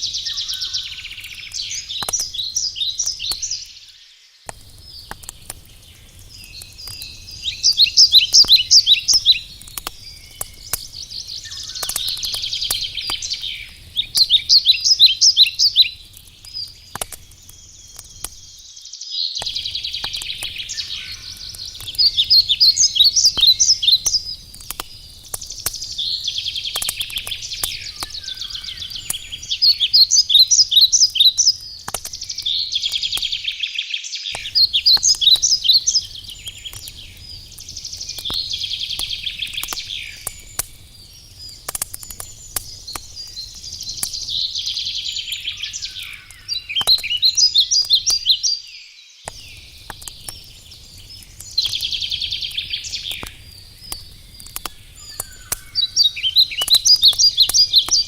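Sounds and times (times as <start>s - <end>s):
campfire crackles: 0.0s - 58.0s
songbird singing: 0.0s - 58.0s.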